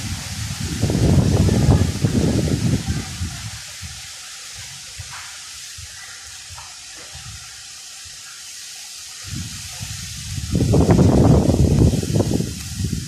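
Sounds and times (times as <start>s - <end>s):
wind buffeting microphone: 0.0s - 7.6s, 9.2s - 13.0s
wind through palm trees: 0.0s - 13.0s.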